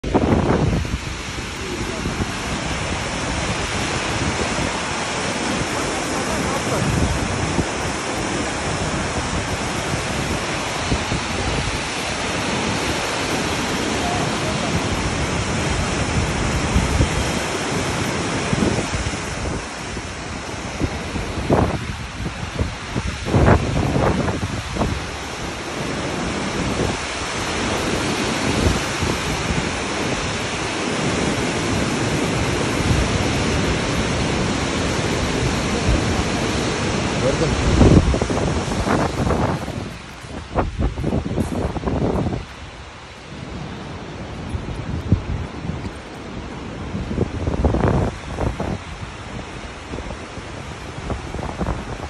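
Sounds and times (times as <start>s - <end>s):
river rushing over boulders: 0.0s - 52.0s
waterfall: 0.0s - 52.0s.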